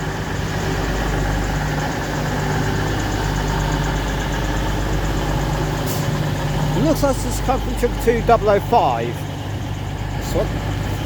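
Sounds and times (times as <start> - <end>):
train diesel engines idling: 0.0 - 11.0.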